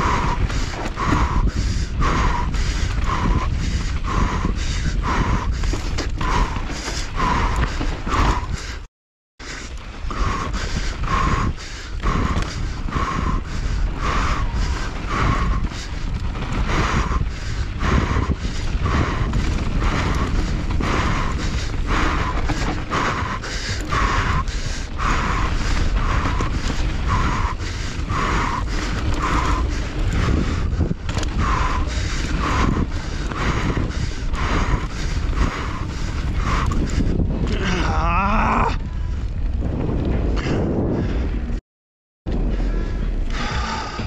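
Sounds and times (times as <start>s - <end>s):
rider breathing hard: 0.0s - 41.6s, 42.3s - 44.0s
wind and tyre rumble: 0.0s - 41.6s, 42.3s - 44.0s.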